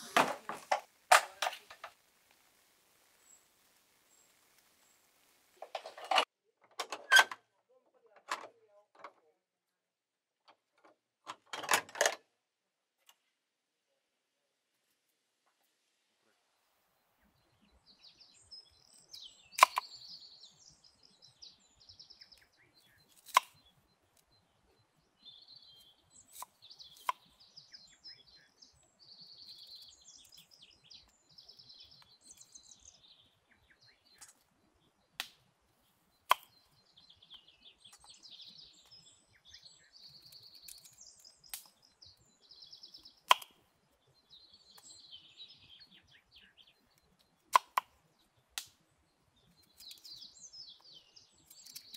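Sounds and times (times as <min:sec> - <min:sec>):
small birds chirping: 0:00.0 - 0:06.7, 0:12.2 - 0:51.9.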